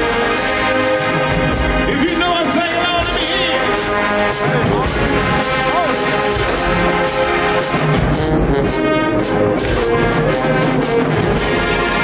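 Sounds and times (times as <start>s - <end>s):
brass section playing chords: 0.0s - 12.0s
steady drumbeat: 0.0s - 12.0s.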